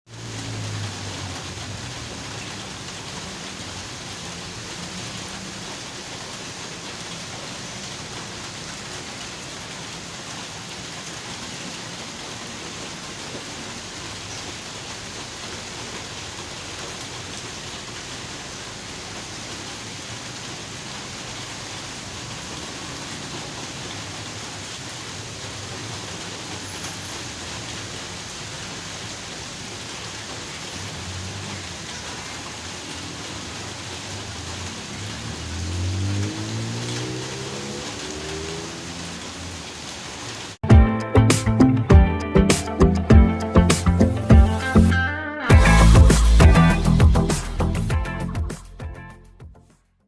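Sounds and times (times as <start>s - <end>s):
heavy rain pouring: 0.1s - 48.8s.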